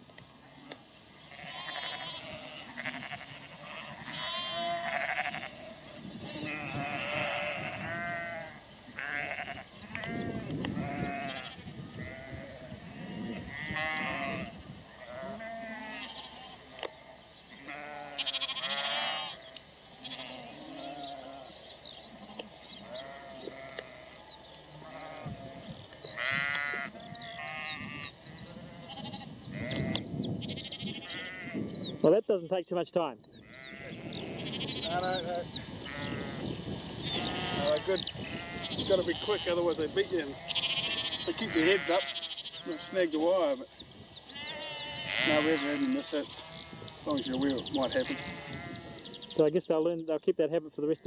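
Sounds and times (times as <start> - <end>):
sheep and lambs bleating: 0.4 - 32.2, 33.3 - 49.5.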